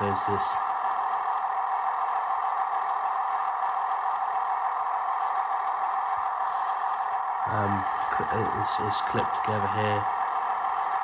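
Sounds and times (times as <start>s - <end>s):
model train diesel idle hum: 0.0s - 11.0s.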